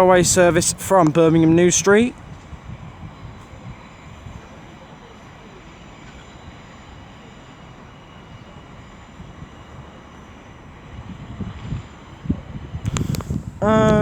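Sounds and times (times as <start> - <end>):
faint high whine: 0.0 - 14.0
train rumbling: 0.0 - 14.0.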